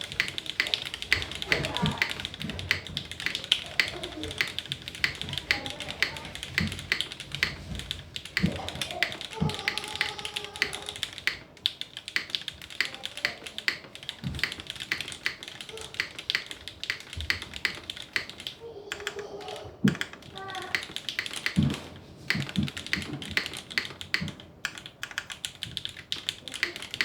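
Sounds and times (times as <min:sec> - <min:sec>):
mechanical keyboard typing: 0:00.0 - 0:27.0.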